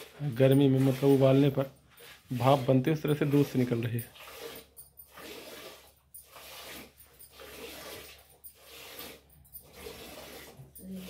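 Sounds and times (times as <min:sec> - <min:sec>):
milk squirting into a pail: 0:00.0 - 0:11.0.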